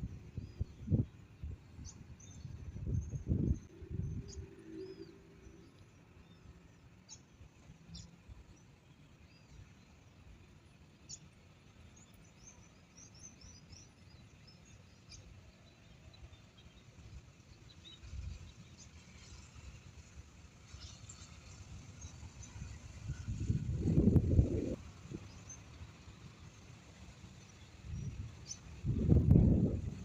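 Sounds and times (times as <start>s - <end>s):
small birds chirping: 0.3s - 30.0s.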